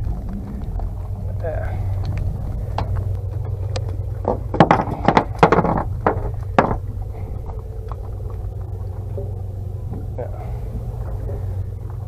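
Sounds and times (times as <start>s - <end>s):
fish flopping on boat deck: 0.0s - 12.0s
steady low hum: 0.0s - 12.0s.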